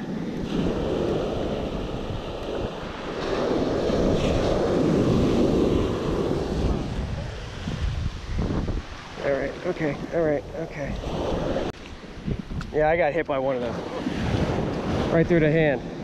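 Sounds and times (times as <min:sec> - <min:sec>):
ocean surf breaking: 0:00.0 - 0:16.0
wind buffeting microphone: 0:00.0 - 0:16.0.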